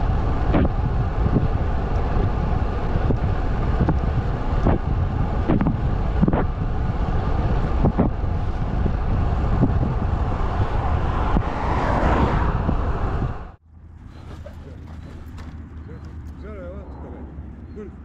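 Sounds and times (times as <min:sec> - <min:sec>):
wind buffeting microphone: 0:00.0 - 0:17.5
quiet road noise: 0:00.0 - 0:18.0.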